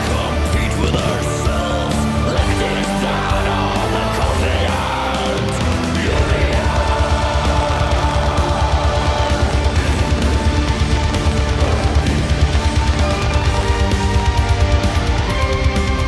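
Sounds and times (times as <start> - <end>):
fast pounding low beat: 0.0 - 16.0
heavy rock music: 0.0 - 16.0.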